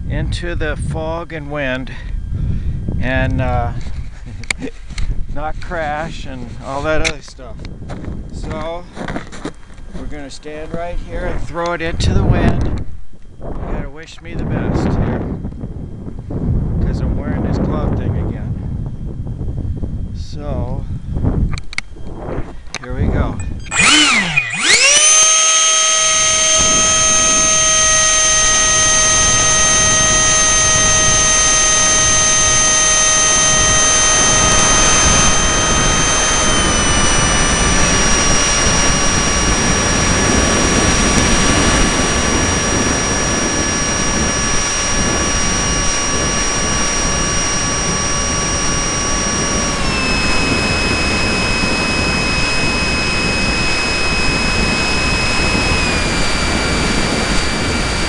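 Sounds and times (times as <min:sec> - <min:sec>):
model airplane motor whine: 0:00.0 - 0:58.0
wind rush: 0:00.0 - 0:58.0.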